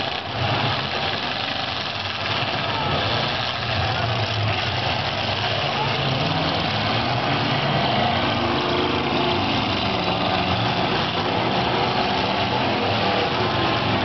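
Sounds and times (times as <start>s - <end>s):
several car engines running: 0.0s - 14.0s.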